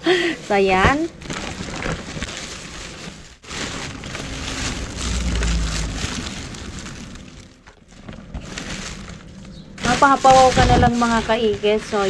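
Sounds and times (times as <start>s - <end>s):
plastic bin bags rustling: 0.0s - 12.0s
deep rumble: 0.6s - 12.0s.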